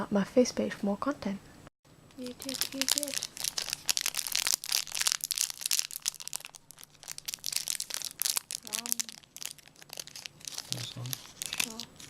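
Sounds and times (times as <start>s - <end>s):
packaging crinkling: 2.2s - 12.0s.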